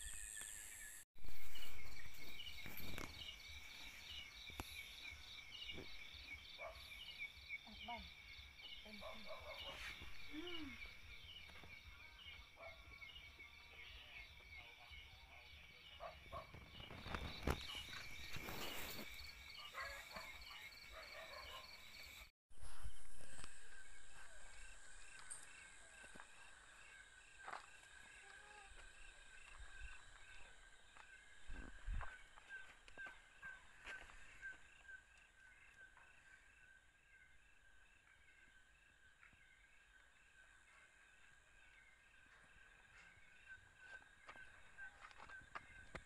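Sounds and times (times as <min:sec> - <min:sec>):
crickets chirping: 0:00.0 - 0:46.0.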